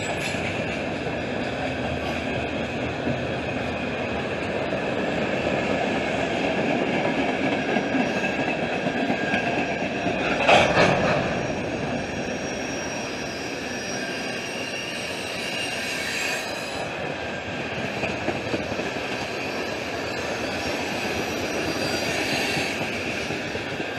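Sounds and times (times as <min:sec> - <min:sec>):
train wheels squealing on rails: 0:00.0 - 0:23.9.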